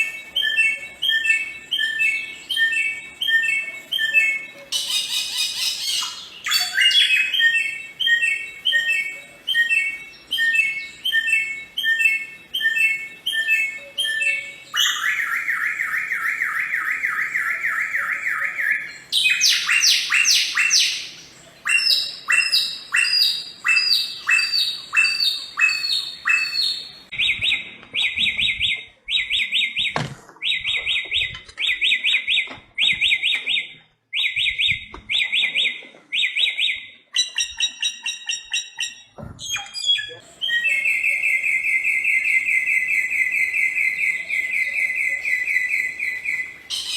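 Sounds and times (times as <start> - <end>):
bird singing varied song: 0.0 - 46.9.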